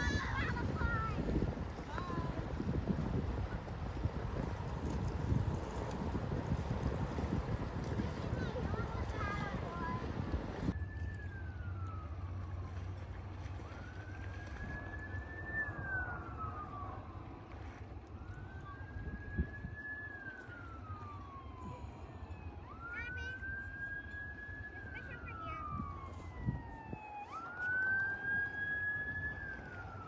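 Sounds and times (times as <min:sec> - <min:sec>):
siren wailing: 0:04.8 - 0:30.0.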